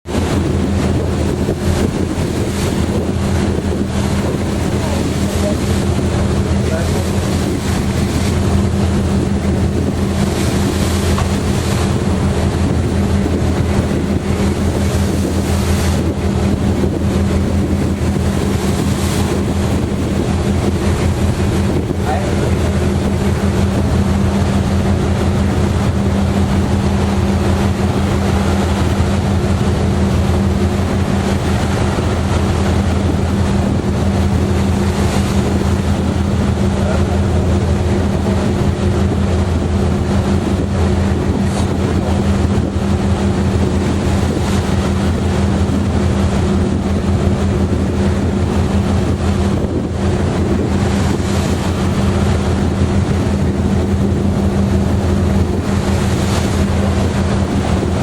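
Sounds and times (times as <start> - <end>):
sea washing along hull: 0.0 - 58.0
wind buffeting microphone: 0.0 - 58.0
ferry engine droning: 0.1 - 58.0.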